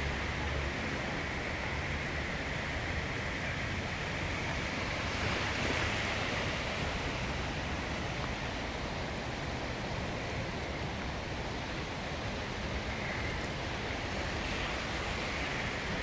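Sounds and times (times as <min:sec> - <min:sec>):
floodwater running across street: 0:00.0 - 0:16.0
heavy rain: 0:00.0 - 0:16.0.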